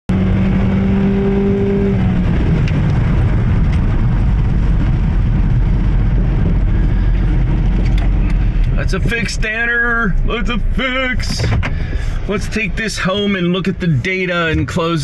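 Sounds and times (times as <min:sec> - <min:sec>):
car engine running: 0:00.1 - 0:15.0
road noise: 0:00.1 - 0:15.0.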